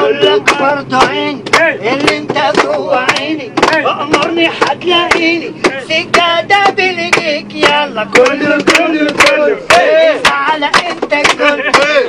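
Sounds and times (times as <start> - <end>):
people singing: 0.0 - 12.0
sharp percussive beats: 0.0 - 12.0.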